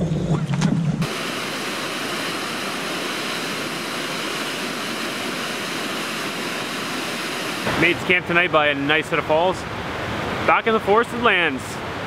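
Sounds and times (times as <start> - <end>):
waterfall rushing: 1.0 - 12.0.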